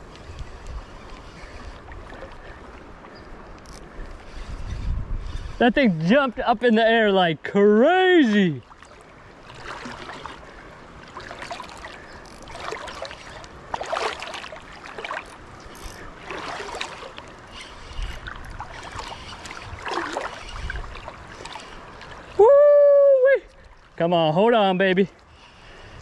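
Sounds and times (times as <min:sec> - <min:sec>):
river water sloshing and splashing: 0:00.0 - 0:04.7, 0:05.9 - 0:26.0.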